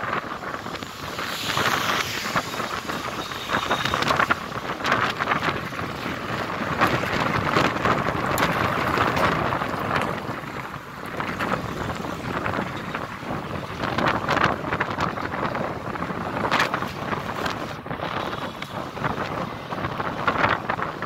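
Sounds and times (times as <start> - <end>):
road and traffic noise: 0.0 - 21.0
wind buffeting microphone: 0.0 - 21.0.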